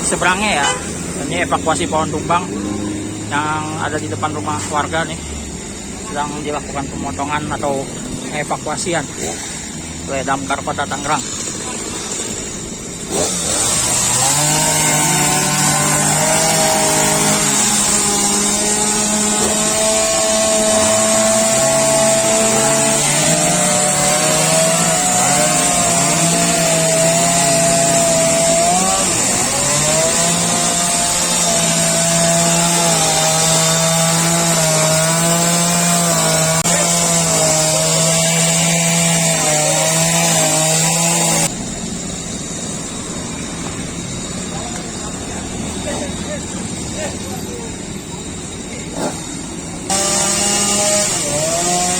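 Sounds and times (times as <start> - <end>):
chainsaw cutting wood: 0.0 - 42.6, 48.8 - 51.9.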